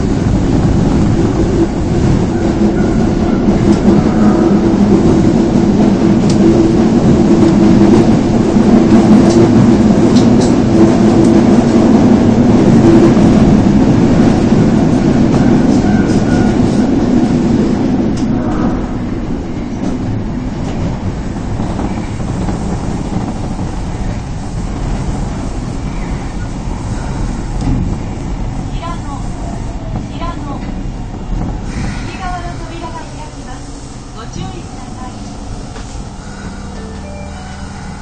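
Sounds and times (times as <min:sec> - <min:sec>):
subway train rumble: 0:00.0 - 0:38.0.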